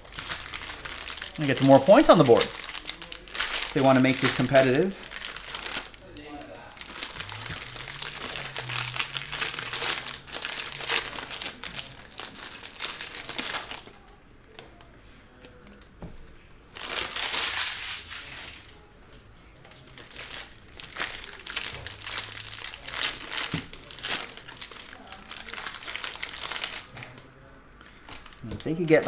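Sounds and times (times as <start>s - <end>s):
plastic wrappers crinkling: 0.0s - 14.9s, 16.7s - 18.8s, 19.6s - 29.0s.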